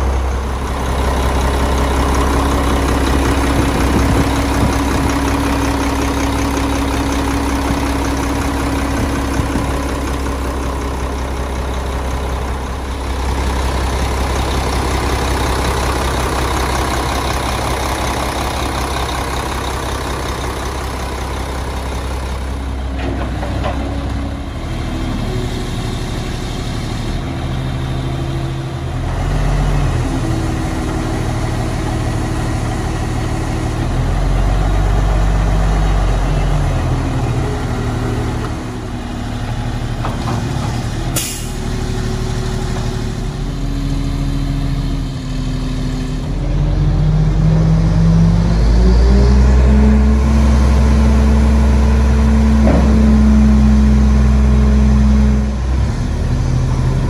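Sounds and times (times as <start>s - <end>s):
garbage truck diesel engine running: 0.0s - 57.0s.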